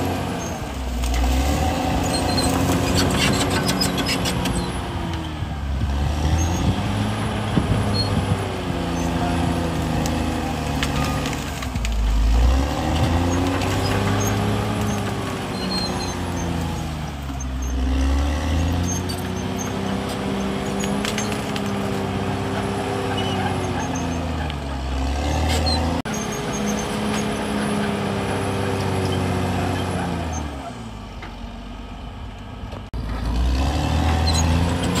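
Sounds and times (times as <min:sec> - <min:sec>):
bulldozer diesel engine under load: 0:00.0 - 0:35.0.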